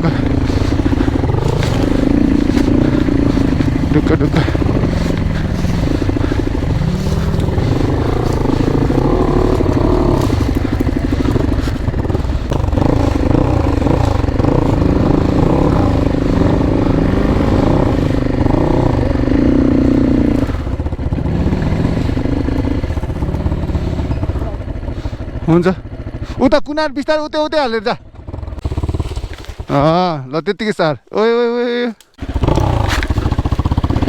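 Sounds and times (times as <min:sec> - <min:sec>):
dirt bike engine revving: 0:00.0 - 0:26.4, 0:28.0 - 0:30.0, 0:32.2 - 0:34.0.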